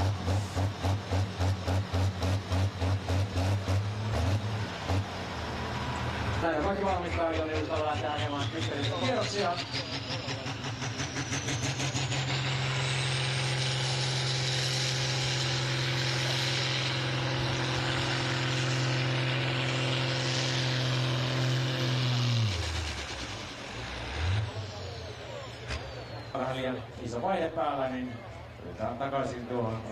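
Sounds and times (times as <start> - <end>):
tractor engine under heavy load: 0.0 - 29.9.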